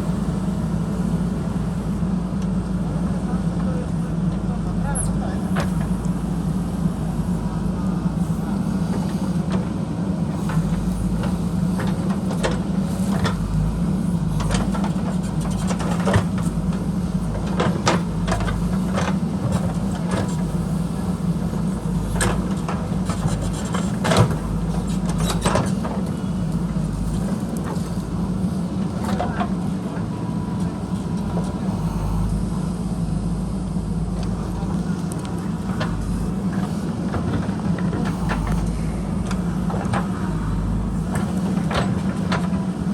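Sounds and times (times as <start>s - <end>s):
diesel engine under load: 0.0s - 42.9s.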